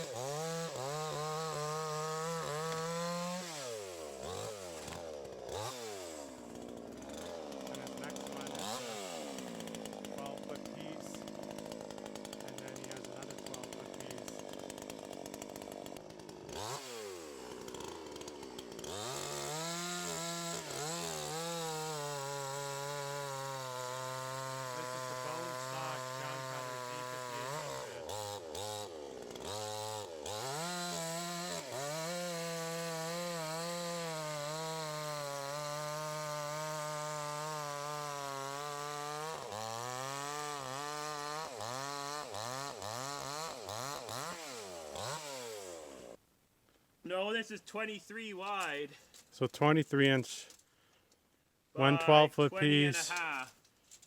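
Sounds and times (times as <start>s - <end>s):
chainsaw revving and cutting: 0.0s - 46.2s, 51.8s - 53.5s.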